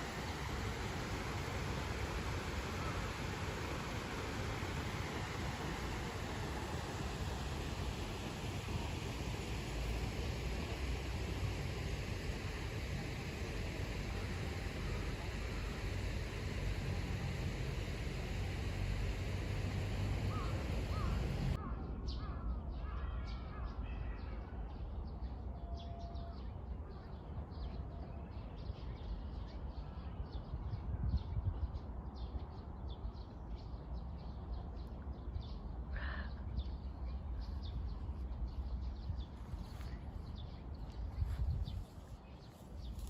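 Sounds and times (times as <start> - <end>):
outdoor background noise: 0.0 - 43.0.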